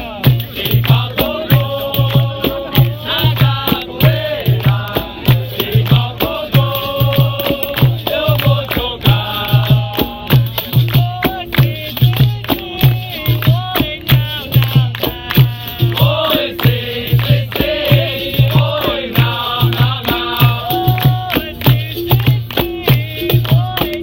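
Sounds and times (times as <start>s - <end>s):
drum beat: 0.0s - 24.0s
rattling percussion: 0.0s - 24.0s.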